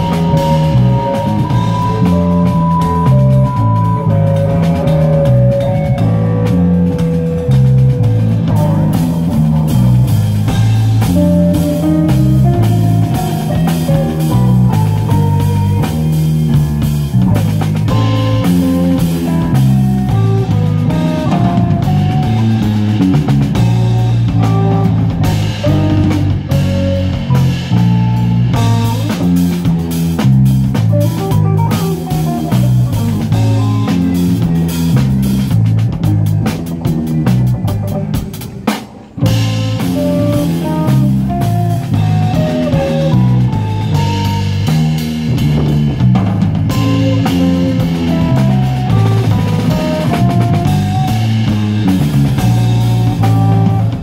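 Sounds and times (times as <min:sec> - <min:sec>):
drums and cymbals: 0:00.0 - 0:54.0
electric bass line: 0:00.0 - 0:54.0
electric guitar melody: 0:00.0 - 0:54.0
keyboard: 0:00.0 - 0:54.0.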